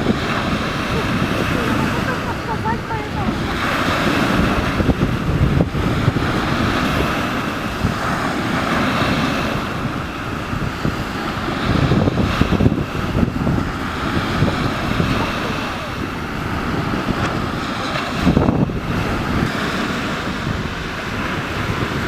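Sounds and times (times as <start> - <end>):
water splashing along board: 0.0 - 22.0
wind buffeting microphone: 0.0 - 22.0.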